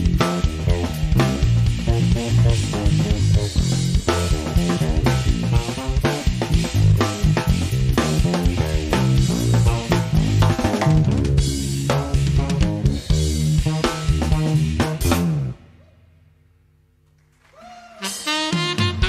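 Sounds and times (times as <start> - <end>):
jazz drum kit: 0.0 - 15.7, 17.9 - 19.0
electric bass: 0.0 - 17.0.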